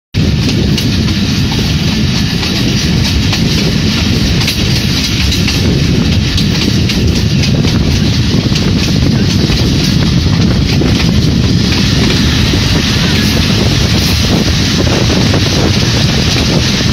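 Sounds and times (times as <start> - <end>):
train wheels rumbling on track: 0.1 - 16.9.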